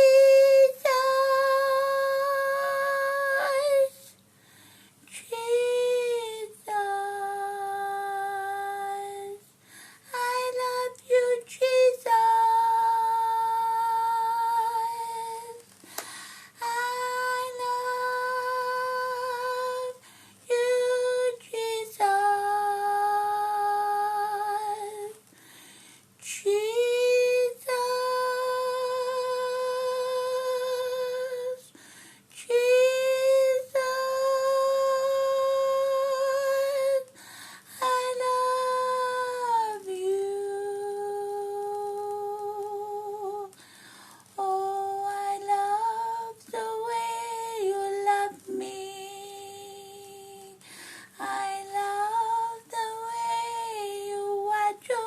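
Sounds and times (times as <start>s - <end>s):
woman singing in high voice: 0.0s - 4.3s, 5.1s - 15.8s, 16.5s - 25.3s, 26.2s - 43.6s, 44.2s - 55.0s.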